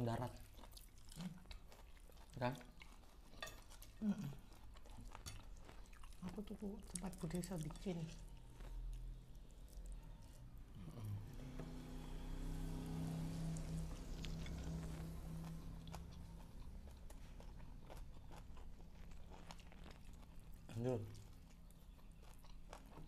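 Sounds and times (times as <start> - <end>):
people chewing food: 0.0 - 23.0
low steady hum: 3.4 - 23.0.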